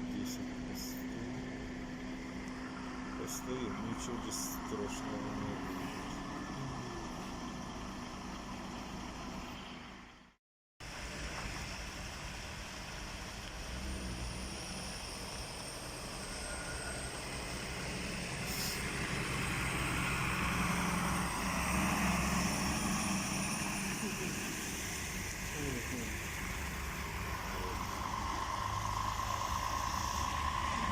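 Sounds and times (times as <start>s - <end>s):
engine and traffic hum: 0.0s - 30.9s.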